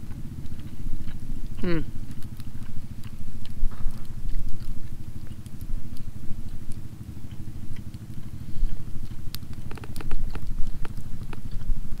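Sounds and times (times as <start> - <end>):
engine humming: 0.0 - 12.0
person chewing: 0.0 - 12.0.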